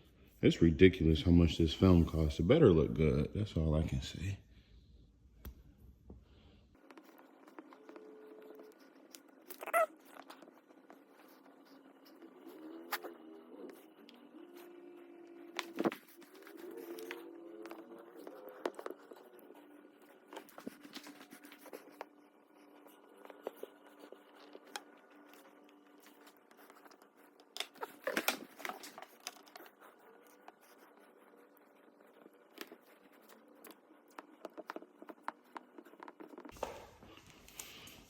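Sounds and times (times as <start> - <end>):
tape crinkling and scratching: 6.8 - 38.0.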